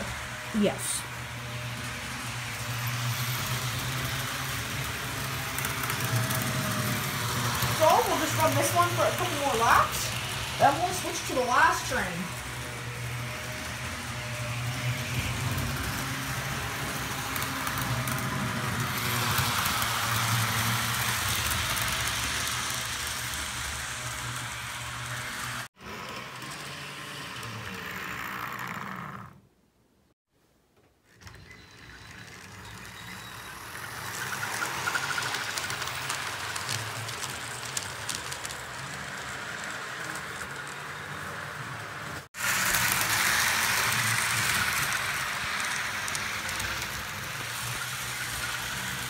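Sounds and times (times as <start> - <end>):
model train motor hum: 0.0 - 29.3, 31.1 - 49.0
wheel and track noise: 0.0 - 29.4, 30.8 - 49.0.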